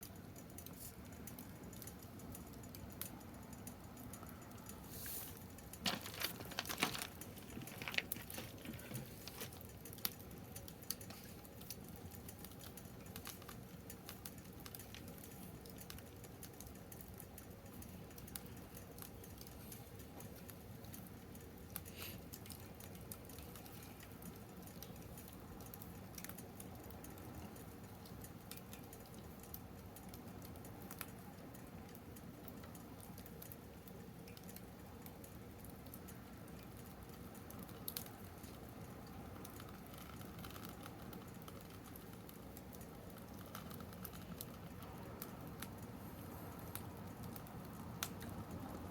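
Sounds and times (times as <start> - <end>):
wood fire crackling and popping: 0.1 - 48.9.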